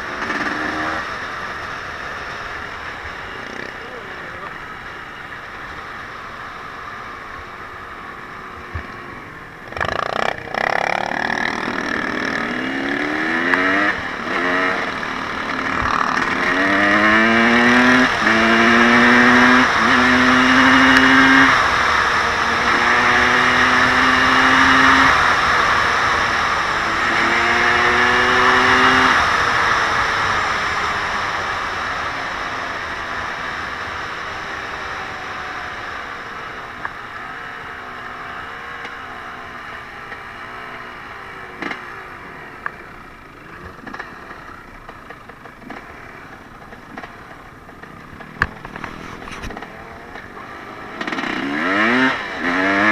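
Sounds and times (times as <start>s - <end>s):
vehicle engine accelerating: 0.0s - 52.9s.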